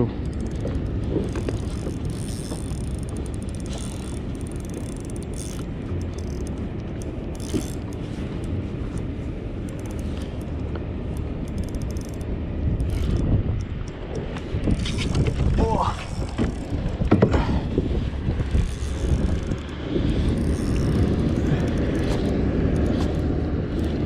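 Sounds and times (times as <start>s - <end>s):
steady low rumble: 0.0s - 24.0s
fishing reel ratchet clicking: 0.2s - 8.5s, 9.7s - 14.0s, 14.6s - 17.0s, 18.4s - 24.0s.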